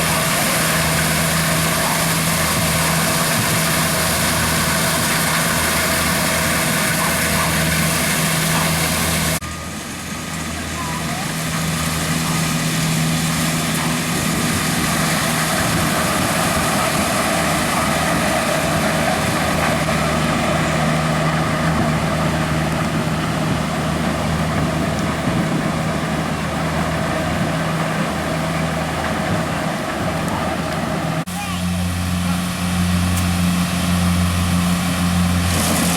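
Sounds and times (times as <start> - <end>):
combine harvester running: 0.0 - 35.9.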